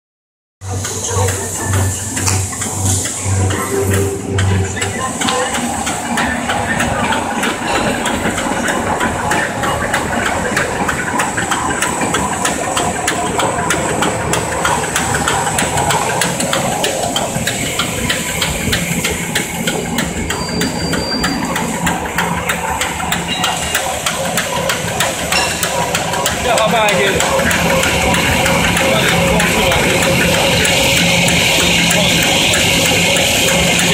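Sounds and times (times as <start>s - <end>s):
machine mechanical din: 0.6s - 33.9s
rapid repeating clicks: 0.8s - 33.9s.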